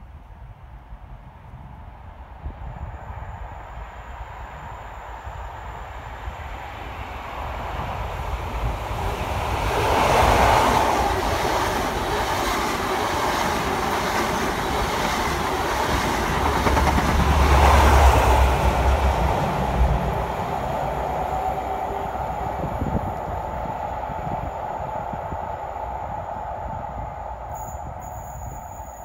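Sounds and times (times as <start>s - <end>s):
diesel train passing at speed: 0.2s - 29.0s.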